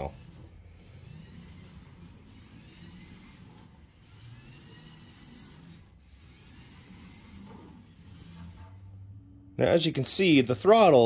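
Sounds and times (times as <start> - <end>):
toy electric motors whining: 0.0 - 8.9.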